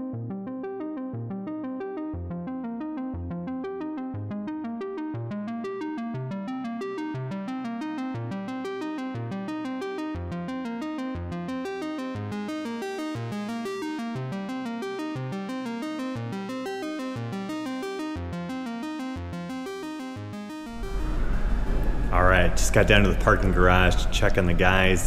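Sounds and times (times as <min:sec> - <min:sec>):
electronic synthesizer music: 0:00.0 - 0:24.6.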